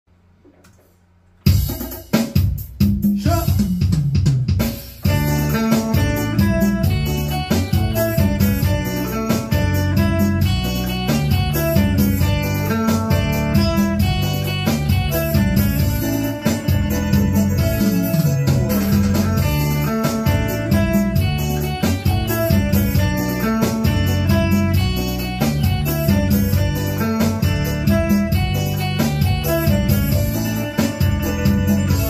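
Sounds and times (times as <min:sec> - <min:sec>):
drum beat: 0:01.4 - 0:32.0
keyboard playing: 0:04.6 - 0:32.0
electric guitar: 0:05.0 - 0:32.0.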